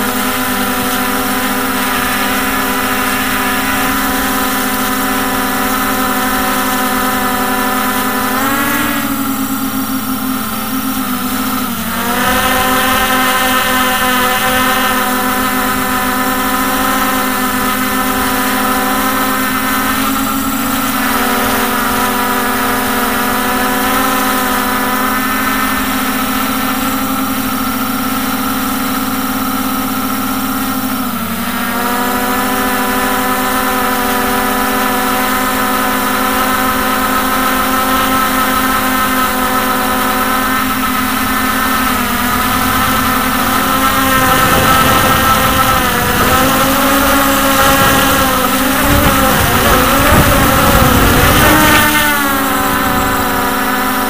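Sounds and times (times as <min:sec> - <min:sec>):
quadcopter motors humming: 0:00.0 - 0:54.0.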